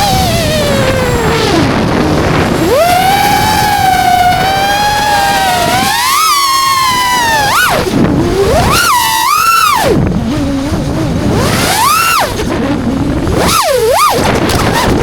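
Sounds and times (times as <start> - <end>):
drone motors whining: 0.0 - 15.0
wind rumble on microphone: 0.0 - 15.0.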